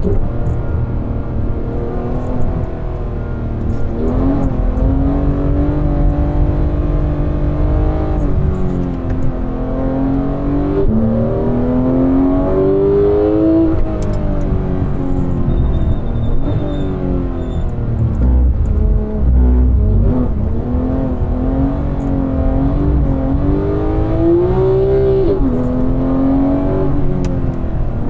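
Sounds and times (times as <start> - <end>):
car engine revving under load: 0.0 - 28.0.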